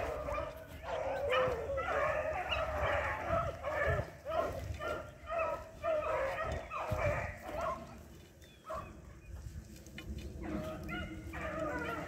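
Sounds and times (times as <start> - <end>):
hounds baying and yelping: 0.0 - 12.0.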